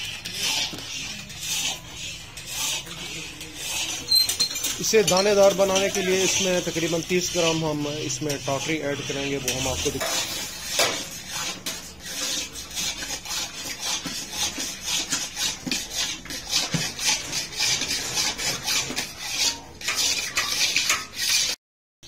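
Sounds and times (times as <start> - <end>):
iron rod scraping in pan: 0.0 - 21.6.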